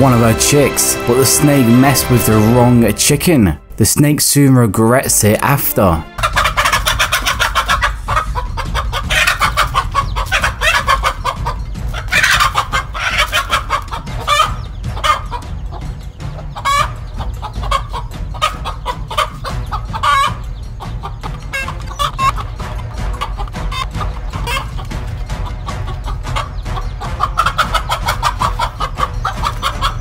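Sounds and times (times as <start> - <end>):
hen clucking alarm calls: 5.0 - 30.0.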